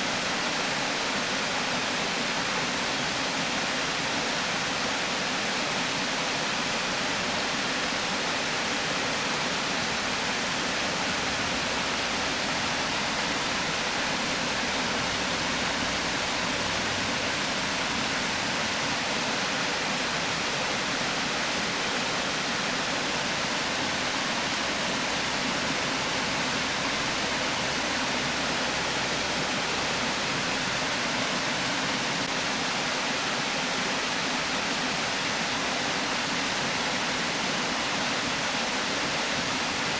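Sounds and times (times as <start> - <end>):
river water pouring over weir: 0.0 - 39.9.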